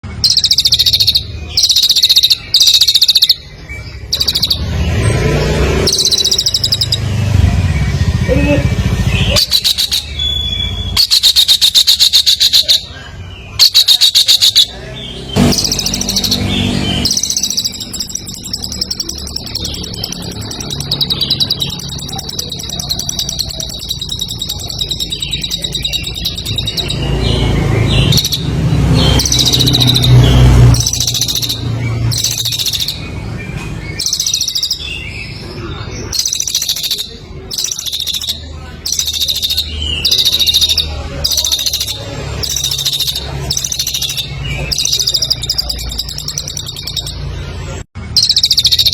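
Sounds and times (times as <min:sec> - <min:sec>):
songbird trilling: 0:00.0 - 0:48.9.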